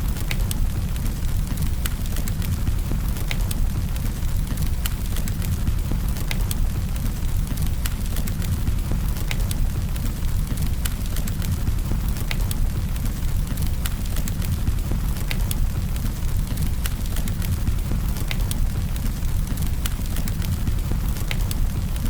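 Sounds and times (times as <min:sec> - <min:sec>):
campfire crackling and popping: 0:00.0 - 0:22.0
low rumble of fire: 0:00.0 - 0:22.0.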